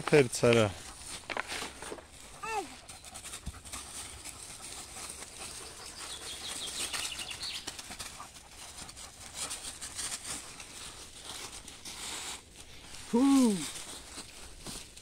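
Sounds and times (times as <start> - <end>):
dry leaves crackling underfoot: 0.0 - 15.0.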